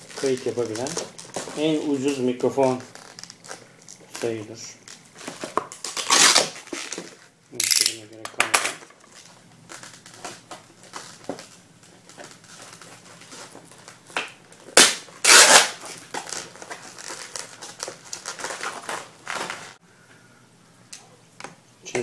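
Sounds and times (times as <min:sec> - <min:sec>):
plastic blister packaging crackling: 0:00.0 - 0:08.0, 0:08.9 - 0:19.8.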